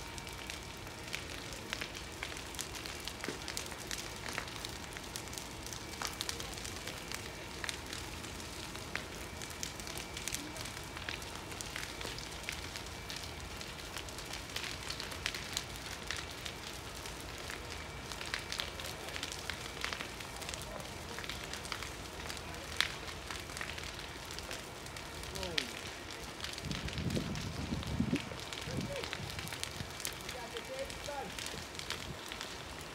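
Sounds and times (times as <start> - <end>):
fire crackling and popping: 0.0 - 32.9
fire rushing noise: 0.0 - 32.9.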